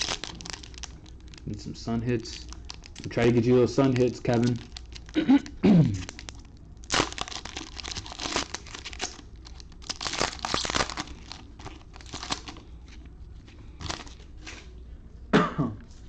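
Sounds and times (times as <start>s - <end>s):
card pack wrapper tearing and crinkling: 0.0s - 13.0s, 13.8s - 14.6s.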